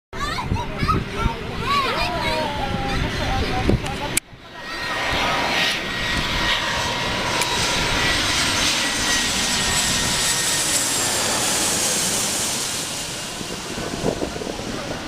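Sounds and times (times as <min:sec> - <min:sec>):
jet engines roaring: 0:00.2 - 0:15.0
high-pitched turbine whine: 0:00.4 - 0:15.0.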